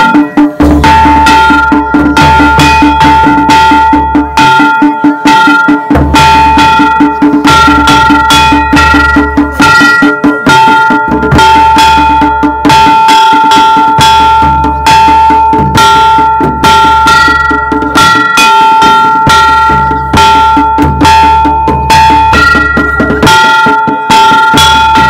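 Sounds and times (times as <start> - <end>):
low drum beat: 0.0 - 25.0
metal percussion struck with stick: 0.0 - 25.0.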